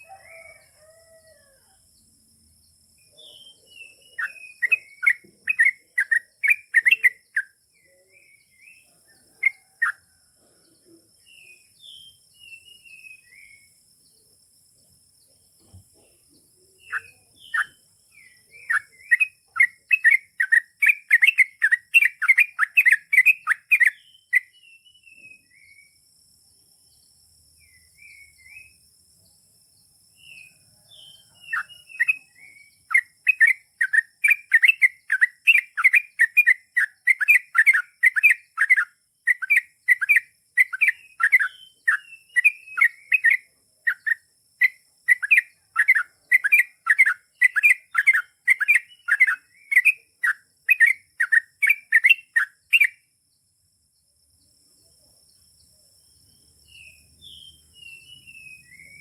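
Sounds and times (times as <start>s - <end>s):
bird chattering song: 2.9s - 26.0s, 30.1s - 53.1s, 55.3s - 59.0s.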